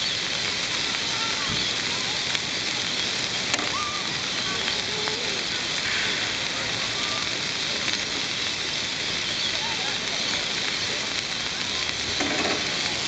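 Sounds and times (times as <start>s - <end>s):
beef sizzling on grill: 0.0s - 13.0s.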